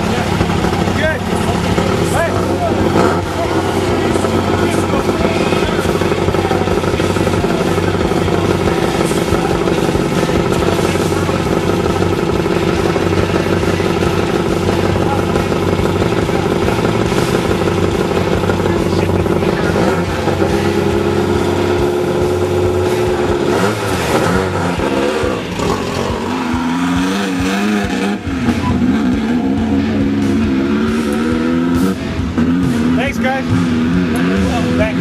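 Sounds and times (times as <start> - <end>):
buggy engine idling and revving: 0.0 - 35.0.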